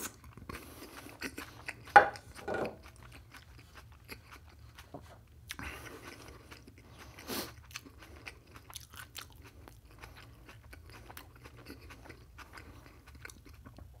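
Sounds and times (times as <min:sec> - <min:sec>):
close chewing crunches: 0:00.0 - 0:13.9.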